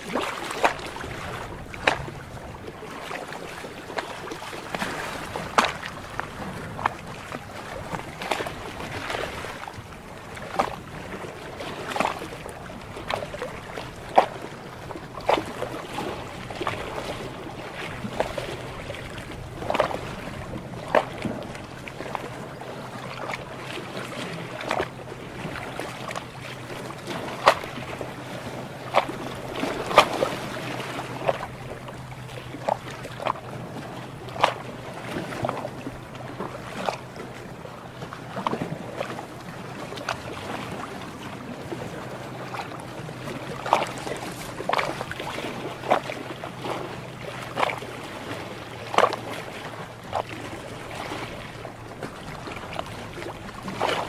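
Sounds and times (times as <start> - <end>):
water lapping and splashing: 0.0 - 54.0.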